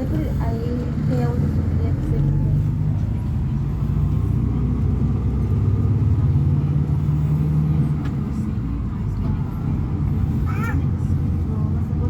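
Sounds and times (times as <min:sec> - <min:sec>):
diesel bus engine drone: 0:00.0 - 0:12.0.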